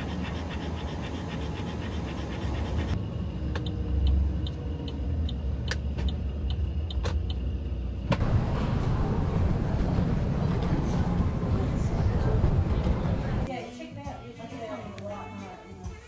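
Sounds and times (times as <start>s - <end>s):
vehicle engine rumble: 0.0s - 13.5s.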